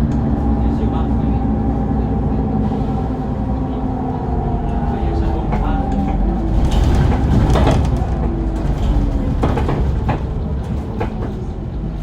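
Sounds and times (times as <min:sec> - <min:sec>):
bus body rattles: 0:00.0 - 0:12.0
bus drivetrain rumble: 0:00.0 - 0:12.0.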